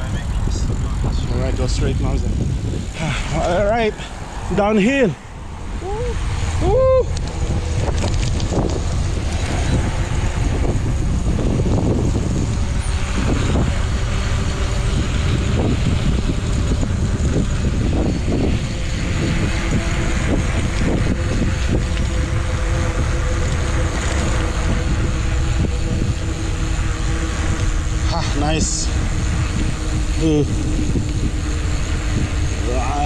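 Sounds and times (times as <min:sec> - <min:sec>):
rushing air: 0:00.0 - 0:33.0
wind buffeting microphone: 0:00.0 - 0:33.0.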